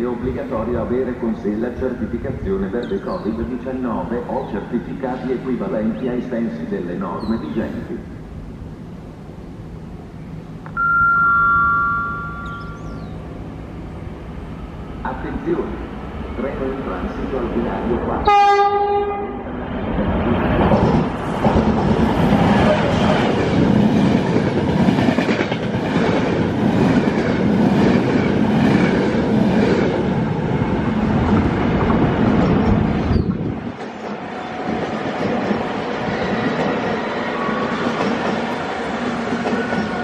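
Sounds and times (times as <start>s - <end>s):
distant train running: 0.0s - 40.0s.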